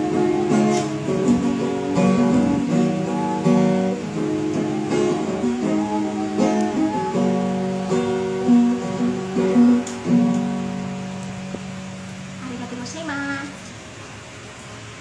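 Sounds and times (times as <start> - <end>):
acoustic guitar strumming chords: 0.0 - 12.4.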